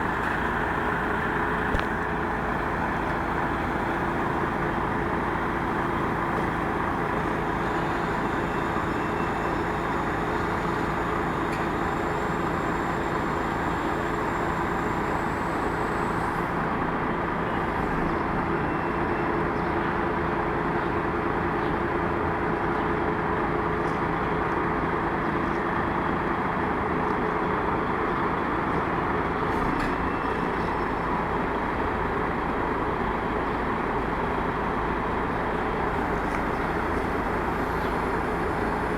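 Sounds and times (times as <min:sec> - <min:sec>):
crane engine droning: 0:00.0 - 0:38.9.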